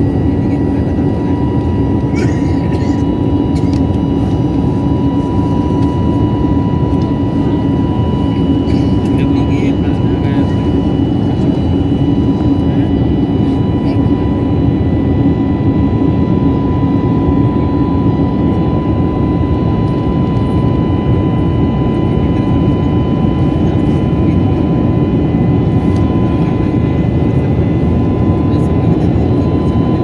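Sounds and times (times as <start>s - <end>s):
high engine whine: 0.0s - 30.0s
jet engine cabin noise: 0.0s - 30.0s.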